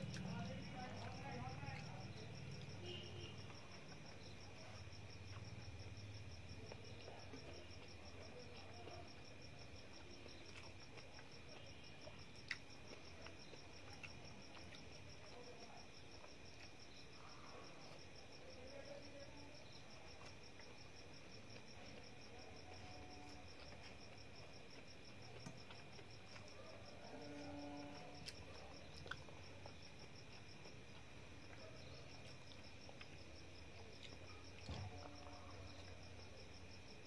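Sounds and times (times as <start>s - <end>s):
rice being handled and chewed: 0.0s - 18.4s, 19.6s - 36.9s
cricket chirping: 0.0s - 37.0s.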